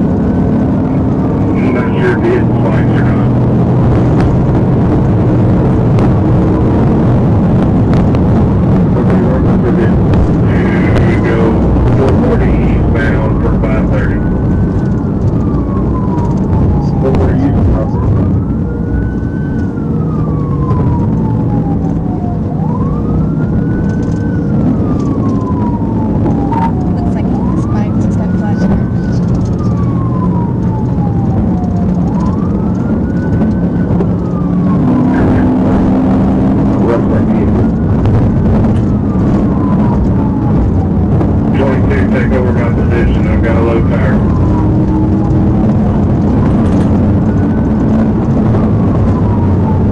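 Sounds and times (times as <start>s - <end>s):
car engine tyres and wind drone: 0.0s - 49.9s
police siren wailing: 0.0s - 49.9s.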